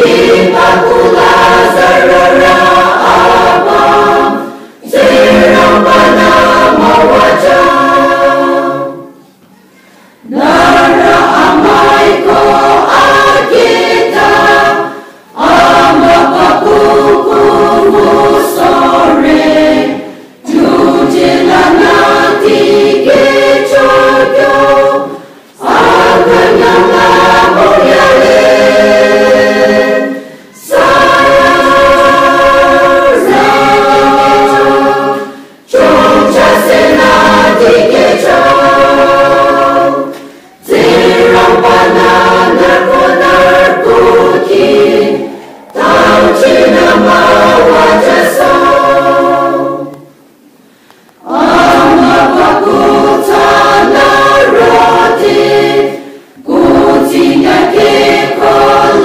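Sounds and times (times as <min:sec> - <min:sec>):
choir singing: 0:00.0 - 0:09.3, 0:10.2 - 0:50.3, 0:51.2 - 0:59.0.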